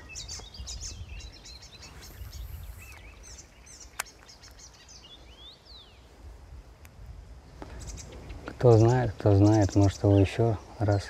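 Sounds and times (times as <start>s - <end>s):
small birds chirping: 0.0s - 6.2s, 6.8s - 11.0s.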